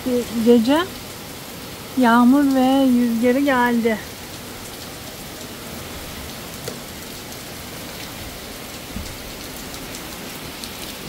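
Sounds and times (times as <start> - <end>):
rain falling on deck: 0.0 - 11.0.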